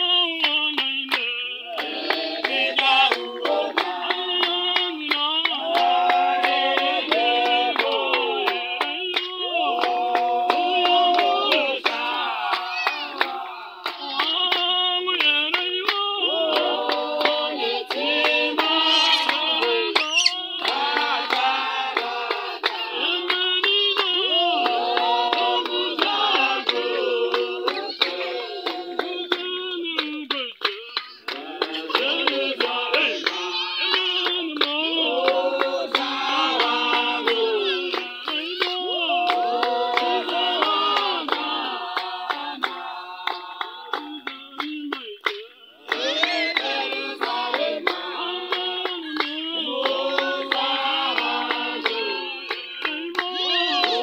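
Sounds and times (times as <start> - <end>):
congregation singing a hymn: 0.0 - 30.4, 31.2 - 45.0, 45.8 - 54.0
hand-clapping: 0.0 - 54.0.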